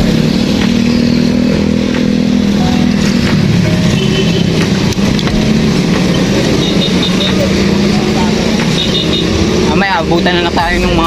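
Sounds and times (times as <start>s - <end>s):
wind and road rumble: 0.0s - 11.0s.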